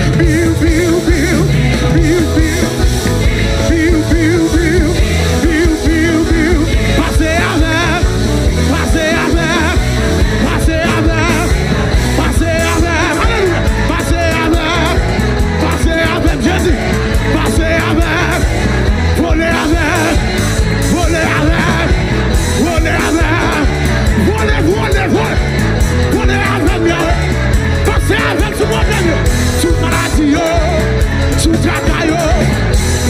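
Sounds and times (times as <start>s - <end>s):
heavy bass line: 0.0s - 33.0s
praise band playing worship music: 0.0s - 33.0s
voices singing: 0.0s - 33.0s.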